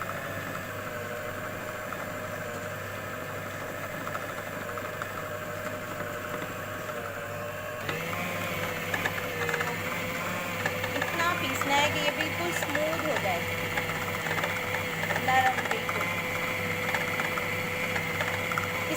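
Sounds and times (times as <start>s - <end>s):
food processor motor whining: 0.0s - 18.9s.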